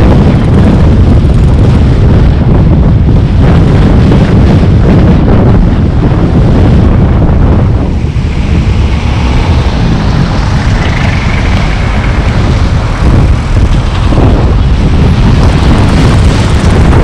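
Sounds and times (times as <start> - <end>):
road noise: 0.0 - 17.0
wind rumble on microphone: 0.0 - 17.0.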